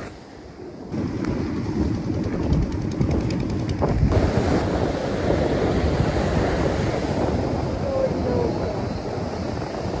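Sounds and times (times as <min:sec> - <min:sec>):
surf washing on beach: 0:00.0 - 0:10.0
wind buffeting microphone: 0:00.0 - 0:10.0.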